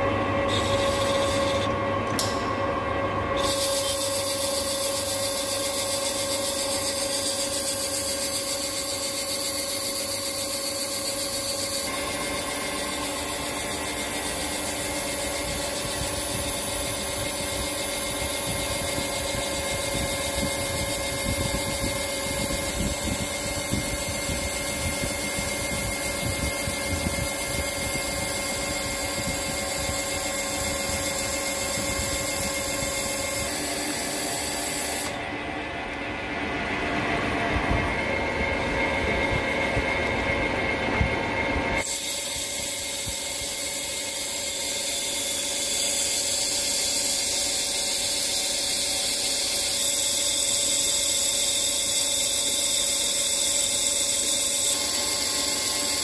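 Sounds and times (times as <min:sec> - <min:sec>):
lathe cutting metal: 0:00.5 - 0:02.4, 0:03.4 - 0:35.2, 0:41.8 - 0:56.0.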